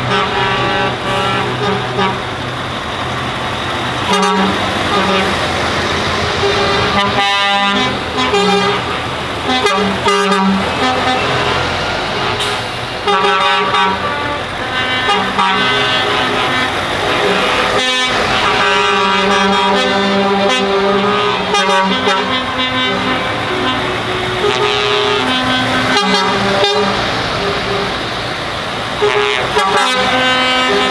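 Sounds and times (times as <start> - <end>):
lorry engines: 0.0 - 30.9
lorry horns blasting: 0.0 - 30.9.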